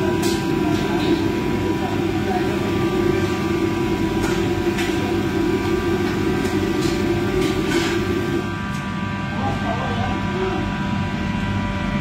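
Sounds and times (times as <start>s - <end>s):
extractor fan roaring: 0.0s - 12.0s.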